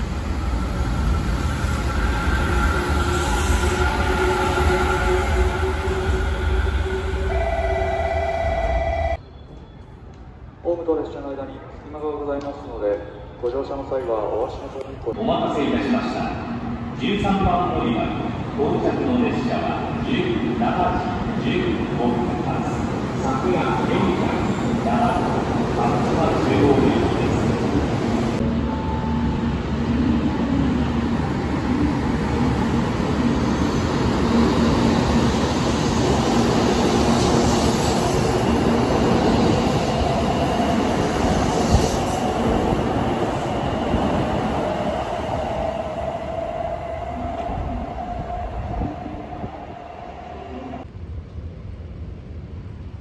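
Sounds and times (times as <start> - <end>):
train rolling past: 0.0 - 10.0, 15.7 - 53.0.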